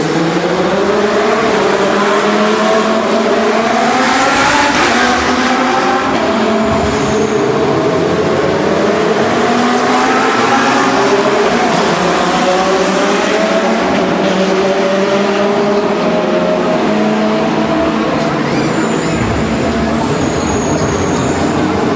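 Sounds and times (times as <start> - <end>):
race car engines accelerating: 0.0 - 21.9.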